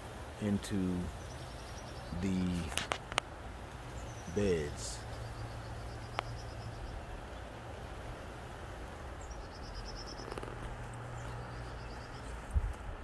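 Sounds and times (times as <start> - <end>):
faint hiss: 0.0 - 12.8.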